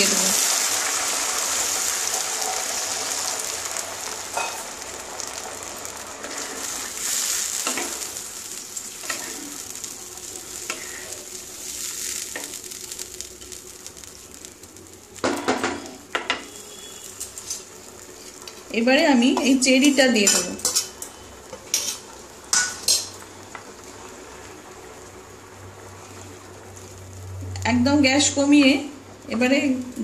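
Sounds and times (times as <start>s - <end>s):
water sizzling in hot oil: 0.0s - 30.0s.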